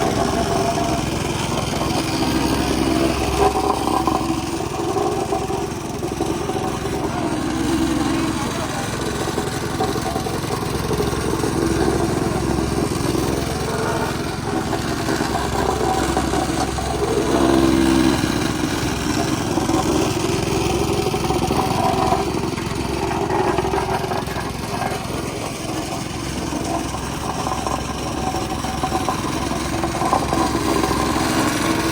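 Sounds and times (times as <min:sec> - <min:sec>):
small engine running: 0:00.0 - 0:31.9.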